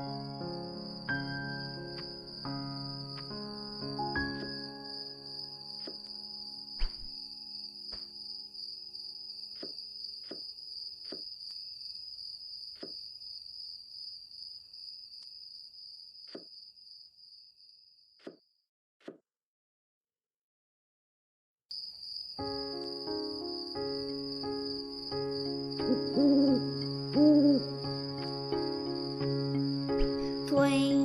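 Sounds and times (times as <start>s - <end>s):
cricket chirring: 0.0s - 18.5s, 21.7s - 31.0s.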